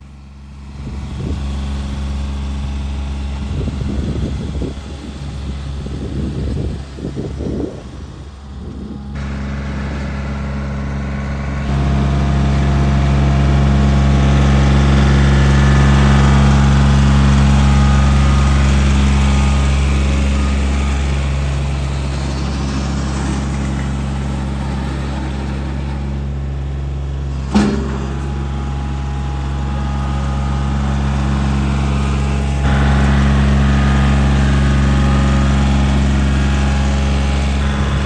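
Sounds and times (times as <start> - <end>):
low rumble: 0.0 - 38.0
tractor diesel engine running: 0.0 - 38.0.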